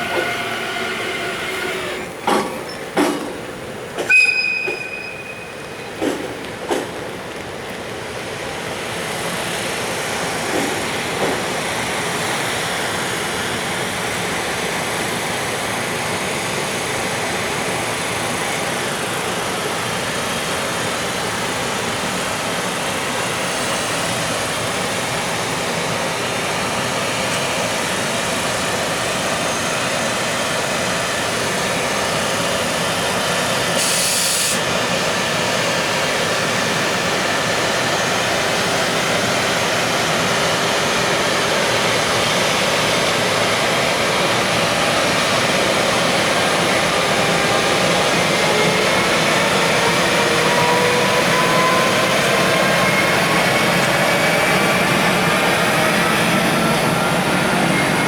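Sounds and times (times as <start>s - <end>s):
freight train running: 0.0s - 58.0s.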